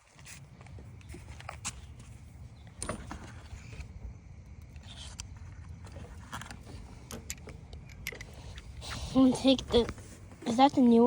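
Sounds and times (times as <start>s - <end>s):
parts clicking and knocking: 0.6s - 10.0s.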